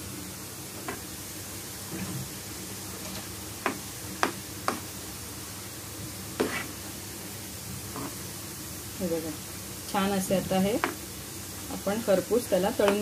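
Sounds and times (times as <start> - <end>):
peanuts sizzling in hot oil: 0.0 - 13.0.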